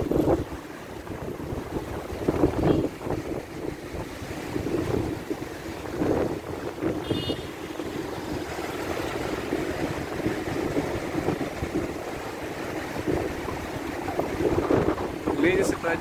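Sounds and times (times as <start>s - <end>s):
city bus: 0.0s - 15.8s
road traffic: 0.0s - 16.0s
wind rushing over microphone: 0.0s - 16.0s.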